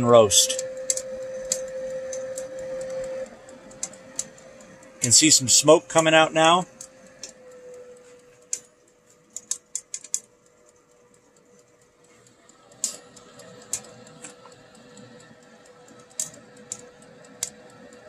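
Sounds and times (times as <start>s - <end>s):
roaster humming: 0.0s - 18.0s.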